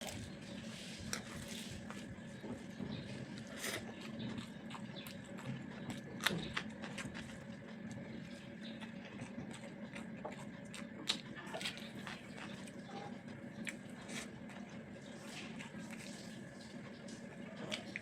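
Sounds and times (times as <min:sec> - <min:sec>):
person chewing: 0:00.0 - 0:12.8, 0:13.6 - 0:16.4
steady low hum: 0:00.0 - 0:18.0.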